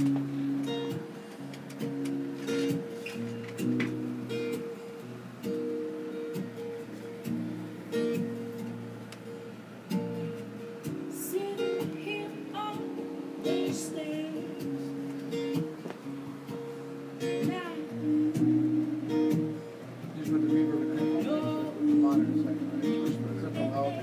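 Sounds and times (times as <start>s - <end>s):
guitar strummed in chords: 0.0s - 24.0s.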